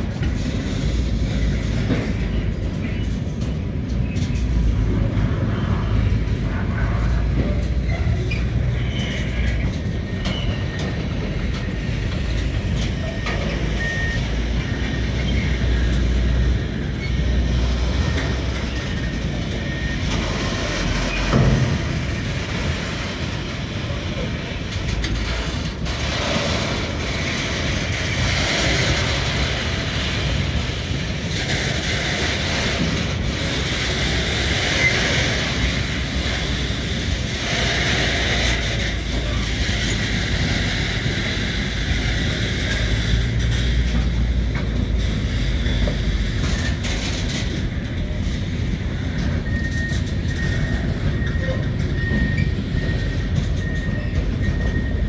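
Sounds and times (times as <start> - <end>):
freight train wagons rumbling: 0.0 - 55.0.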